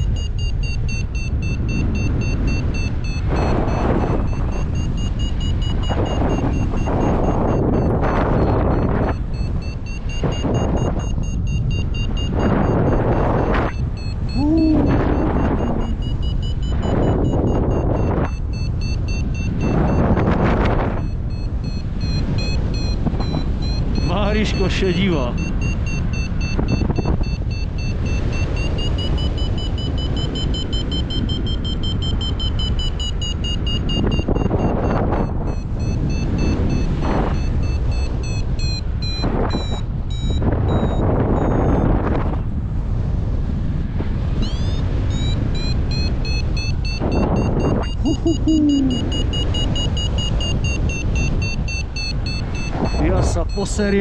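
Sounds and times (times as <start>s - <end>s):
variometer beeping: 0.0s - 42.4s, 44.2s - 54.0s
wind rushing over microphone: 0.0s - 54.0s.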